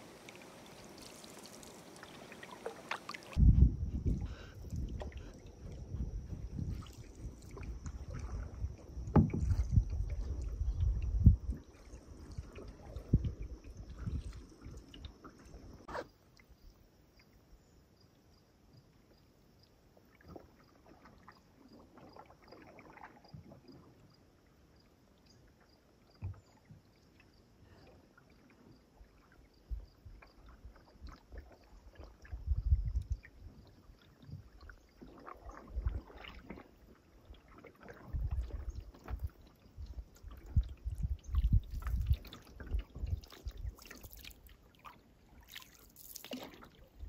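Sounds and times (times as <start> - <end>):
paddle strokes swishing in water: 0.0 - 16.1, 20.2 - 23.8, 27.9 - 47.0.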